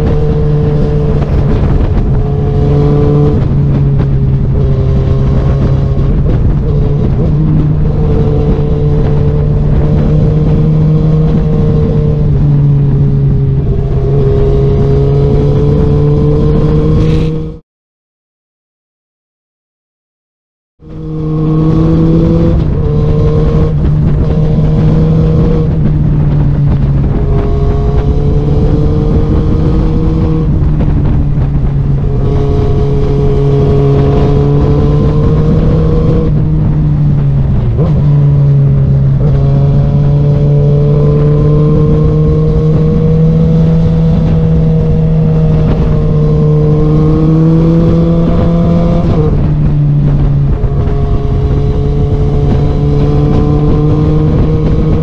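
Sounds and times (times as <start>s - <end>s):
motorcycle engine accelerating: 0.0s - 17.6s, 20.8s - 55.0s
wind noise: 0.0s - 17.6s, 20.8s - 55.0s.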